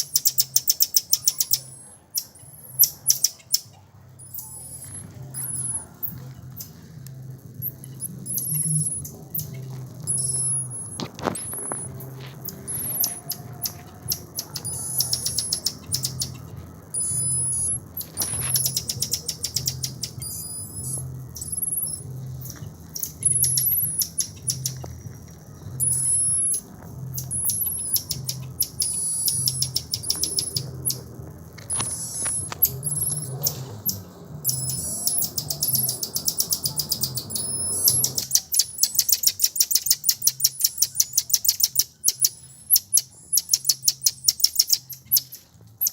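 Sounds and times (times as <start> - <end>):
high-pitched chirping calls: 0.0 - 6.8, 11.8 - 24.9, 25.8 - 45.9
rapid clicking trills: 0.0 - 45.9.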